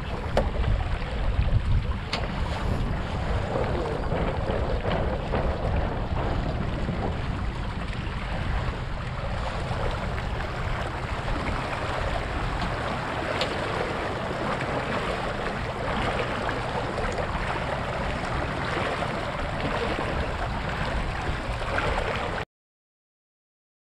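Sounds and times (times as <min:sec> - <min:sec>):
water rushing along hull: 0:00.0 - 0:22.4
wind buffeting microphone: 0:00.0 - 0:22.4.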